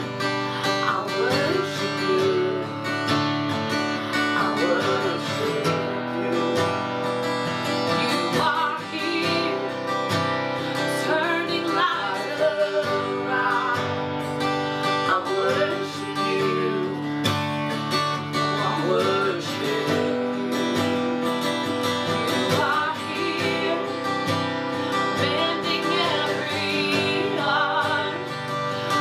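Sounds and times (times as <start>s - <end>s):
person singing: 0.0s - 29.0s
strummed acoustic guitar: 0.0s - 29.0s.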